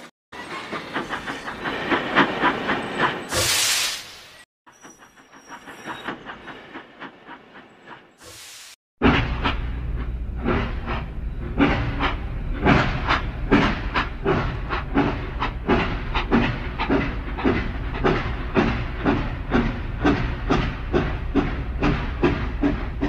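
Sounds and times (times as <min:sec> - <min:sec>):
steam locomotive chuffing: 0:00.4 - 0:03.8, 0:04.7 - 0:23.0.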